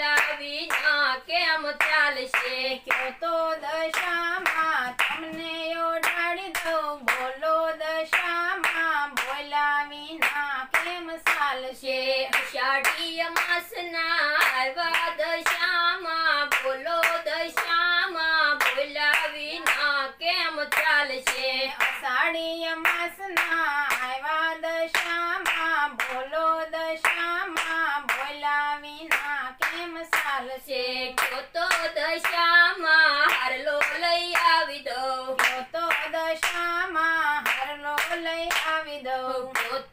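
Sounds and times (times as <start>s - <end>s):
hand claps: 0.0s - 3.2s, 3.8s - 11.6s, 12.3s - 22.2s, 22.8s - 30.5s, 31.1s - 39.9s
person singing devotional song: 0.0s - 39.9s.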